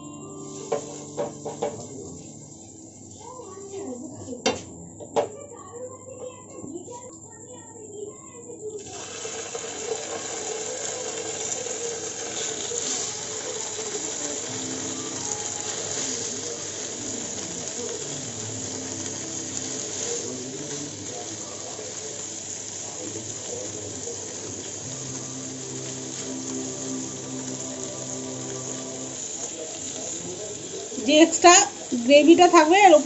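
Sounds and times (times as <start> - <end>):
chicken sizzling in a pan: 0.0 - 4.6, 8.7 - 33.0.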